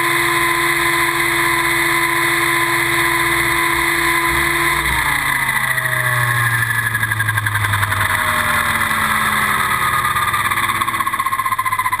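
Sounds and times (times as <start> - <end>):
helicopter motor whine winding down: 0.0 - 12.0
helicopter rotor beat: 0.0 - 12.0.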